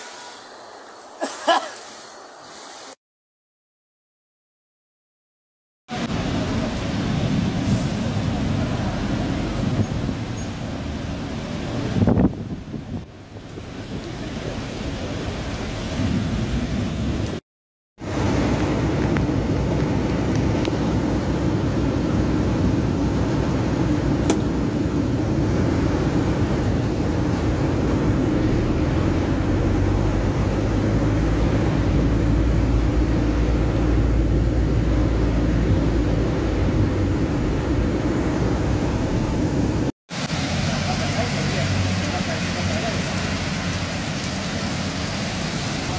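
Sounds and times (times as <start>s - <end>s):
car engine and road noise: 5.9s - 17.4s, 18.0s - 45.9s
rain on car body: 5.9s - 17.4s, 18.1s - 28.4s, 29.3s - 45.9s.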